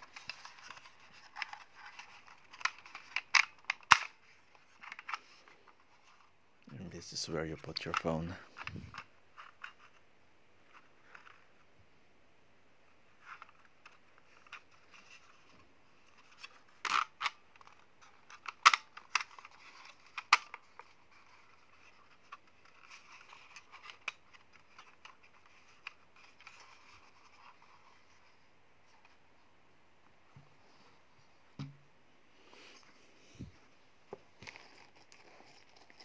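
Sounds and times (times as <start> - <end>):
plastic scraping and handling: 0.0 - 10.0, 13.1 - 29.2, 32.5 - 36.0.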